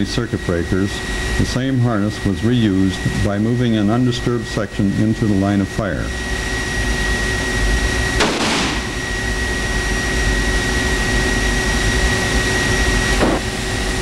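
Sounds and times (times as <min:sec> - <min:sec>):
steady loud hiss and hum: 0:00.0 - 0:14.0.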